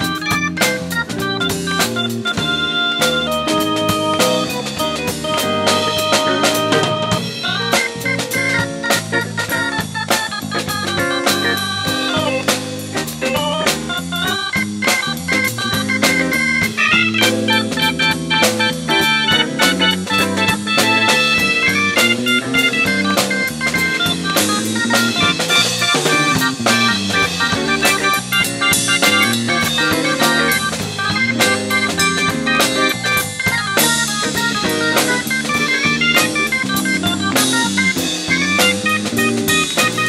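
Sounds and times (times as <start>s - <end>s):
drum kit beat: 0.0s - 40.0s
jazz-funk band playing live: 0.0s - 40.0s.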